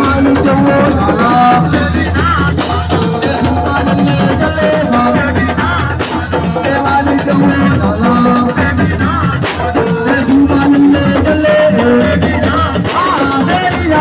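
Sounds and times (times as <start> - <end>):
drums: 0.0 - 14.0
people singing: 0.0 - 14.0.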